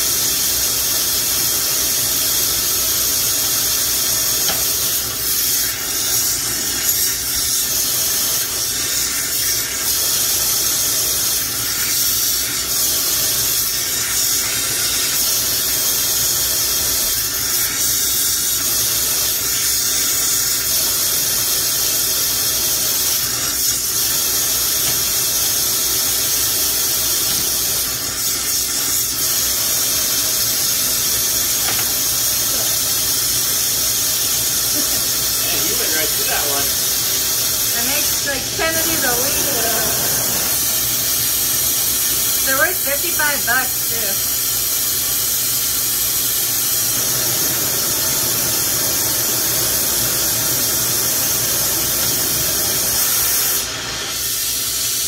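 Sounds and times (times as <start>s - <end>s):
torch flame hissing: 0.0s - 55.0s.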